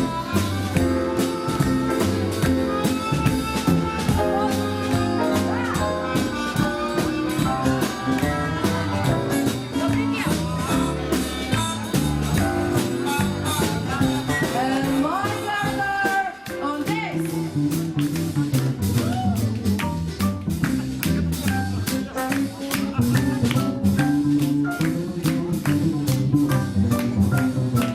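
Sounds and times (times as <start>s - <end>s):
guitar-led instrumental music: 0.0s - 27.9s.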